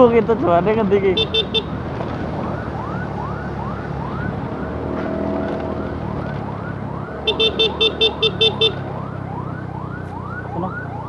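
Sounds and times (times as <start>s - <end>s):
motorcycle engine: 0.0s - 11.0s
ambulance siren whooping: 1.2s - 11.0s.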